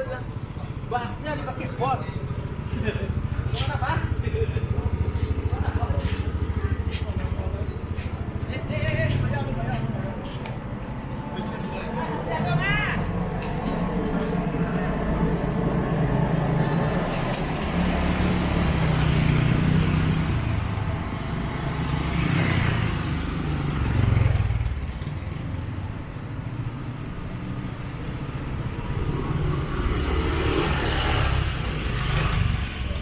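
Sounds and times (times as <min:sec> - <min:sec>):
vehicle engines rumbling: 0:00.0 - 0:33.0.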